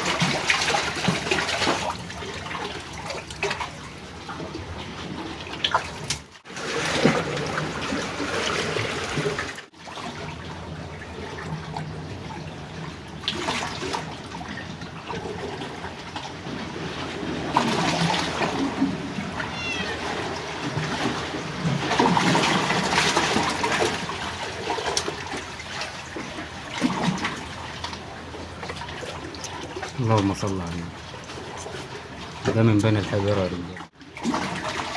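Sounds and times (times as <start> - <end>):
sea water sloshing on rocks: 0.0 - 34.9.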